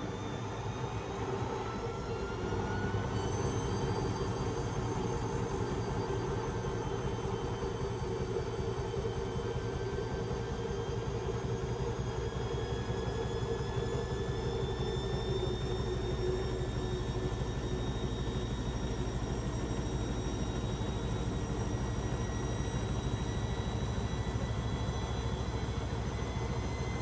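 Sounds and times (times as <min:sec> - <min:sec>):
washing machine motor whine: 0:00.0 - 0:27.0.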